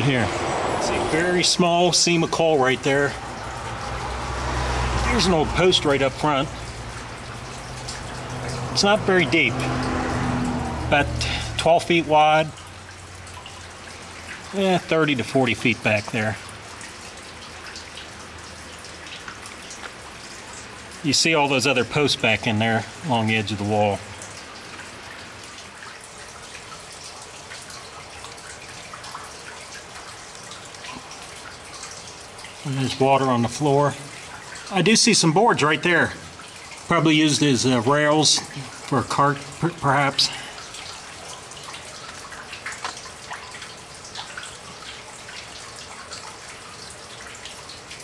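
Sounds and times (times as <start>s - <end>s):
water dripping into pool: 0.0s - 48.0s.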